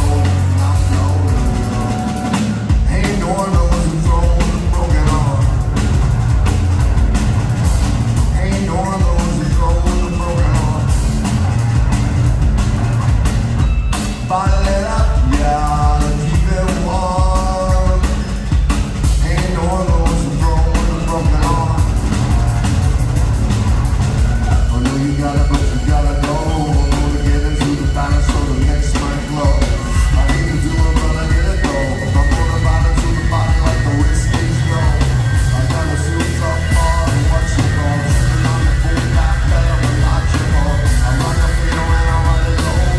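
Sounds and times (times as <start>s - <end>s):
person singing: 0.0s - 5.9s, 8.2s - 11.2s, 14.2s - 22.8s, 24.2s - 42.9s
drum kit: 0.0s - 42.9s
heavy bass: 0.0s - 42.9s.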